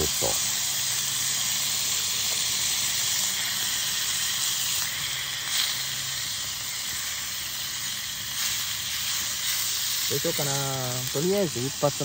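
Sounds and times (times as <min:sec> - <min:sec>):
fire crackle: 0:00.0 - 0:12.0
meat sizzling in a skillet: 0:00.0 - 0:12.0.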